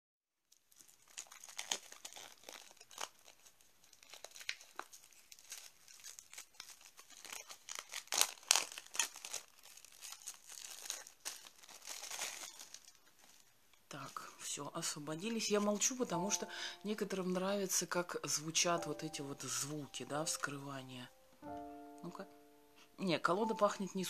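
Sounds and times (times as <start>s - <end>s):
cellophane wrap crinkling: 0.4s - 24.0s.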